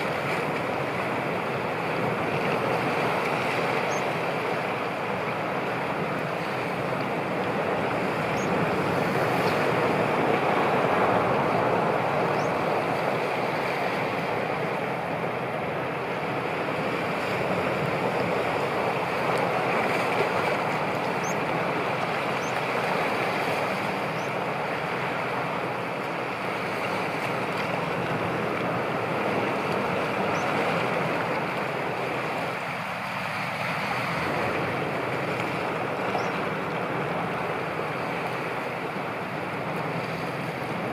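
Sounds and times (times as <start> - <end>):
waves washing: 0.0 - 40.9
wind: 0.0 - 40.9.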